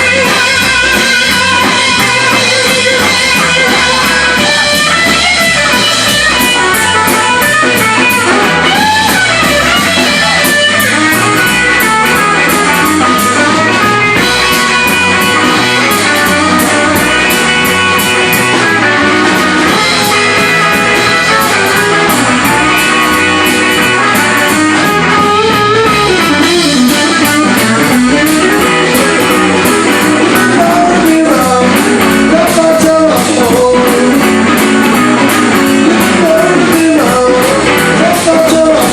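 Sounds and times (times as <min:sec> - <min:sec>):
blues-rock band playing: 0:00.0 - 0:38.9.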